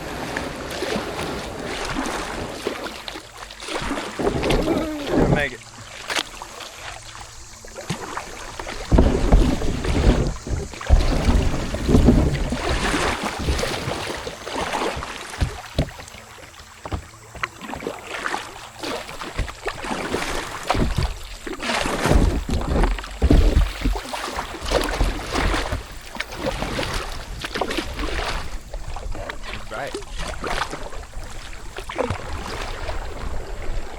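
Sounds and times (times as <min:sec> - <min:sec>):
boat and paddle knocks and scrapes: 0:00.0 - 0:33.9
water splashing: 0:00.0 - 0:33.9.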